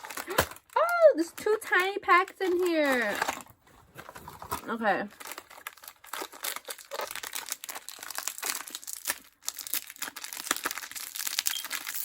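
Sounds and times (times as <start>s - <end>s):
plastic wrapper crinkling and tearing: 0.0s - 12.0s.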